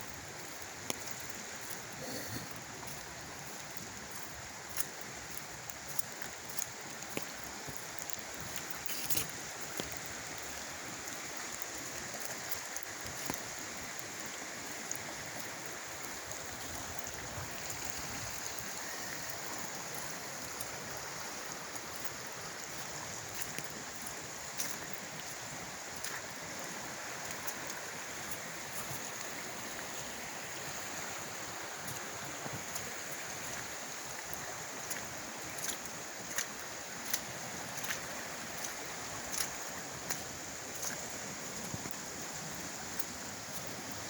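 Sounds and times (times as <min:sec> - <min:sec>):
creek water running: 0:00.0 - 0:44.0.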